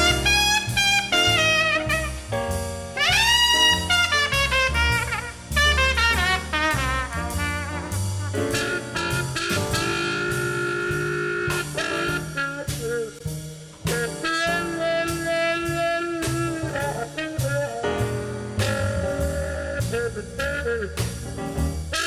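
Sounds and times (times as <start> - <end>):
bass line: 0.0 - 22.0
jazz brass horns: 0.0 - 22.0.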